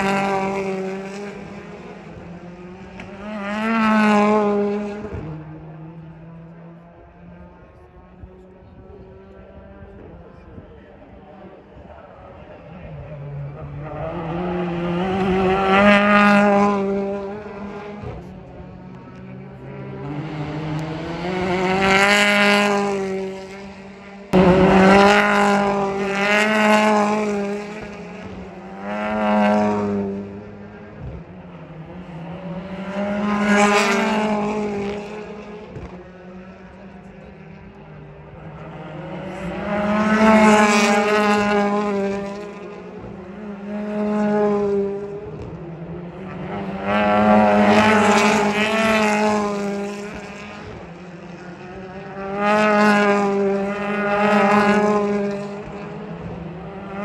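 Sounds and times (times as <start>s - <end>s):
race cars passing: 0.0s - 57.0s.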